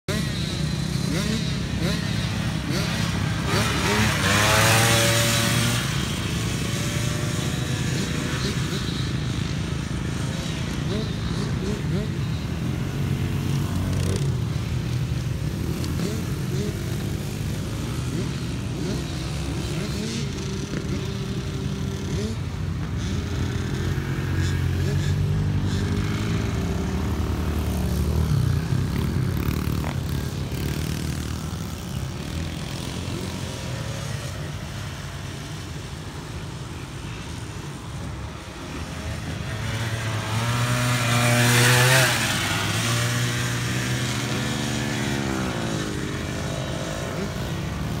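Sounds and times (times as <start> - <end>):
dirt bike engines revving: 0.0 - 48.0
dirt bike passing by: 0.1 - 48.0.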